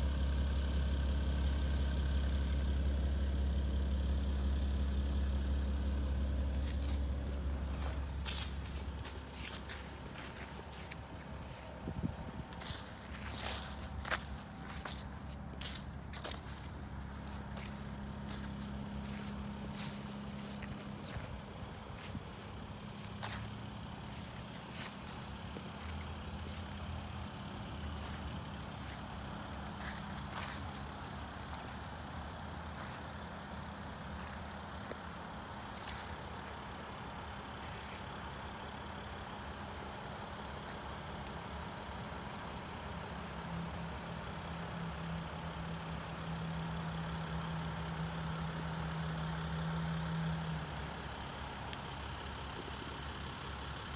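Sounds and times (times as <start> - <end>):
van engine idling: 0.0 - 53.9.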